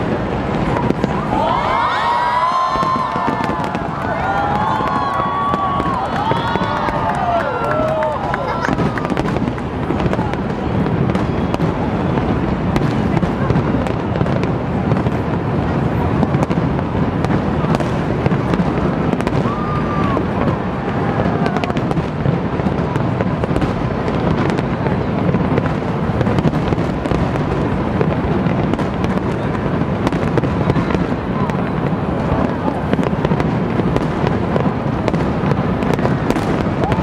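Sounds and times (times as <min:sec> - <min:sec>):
fireworks bursting: 0:00.0 - 0:37.0
fireworks rumble: 0:00.0 - 0:37.0.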